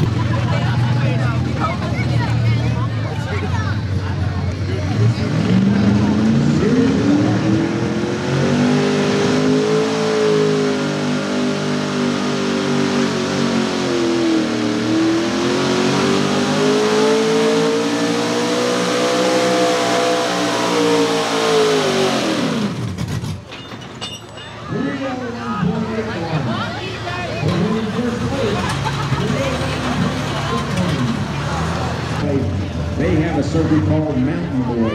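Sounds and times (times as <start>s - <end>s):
truck engine at full throttle: 0.0s - 23.7s, 24.7s - 34.9s.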